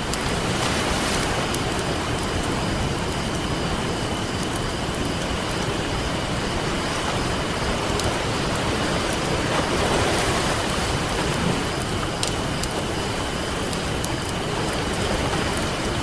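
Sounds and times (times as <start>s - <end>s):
campfire crackling: 0.0s - 16.0s
ocean surf rushing: 0.0s - 16.0s.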